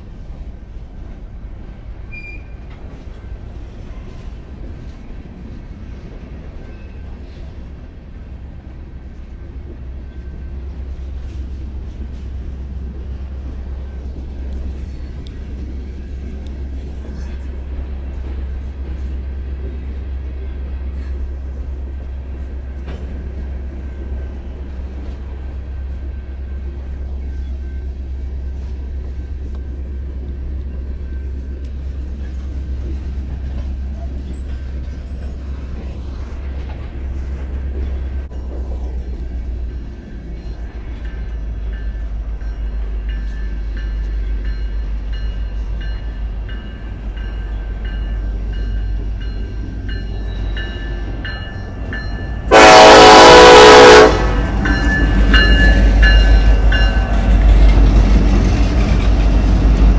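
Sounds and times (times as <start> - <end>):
diesel locomotive rumble: 0.0 - 59.9.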